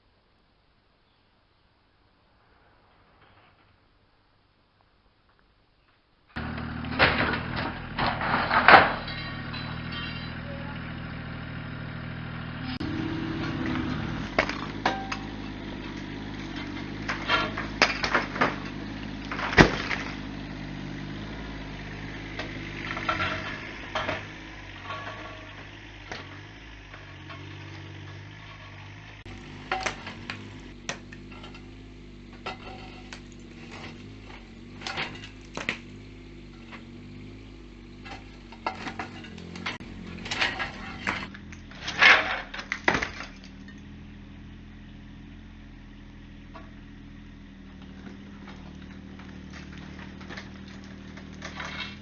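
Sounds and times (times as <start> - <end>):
debris clattering and crashing: 6.4 - 52.0
excavator diesel engine running: 6.4 - 52.0.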